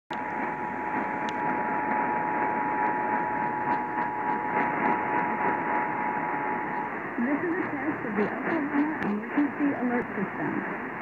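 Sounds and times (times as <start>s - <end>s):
radio static hiss: 0.1s - 11.0s.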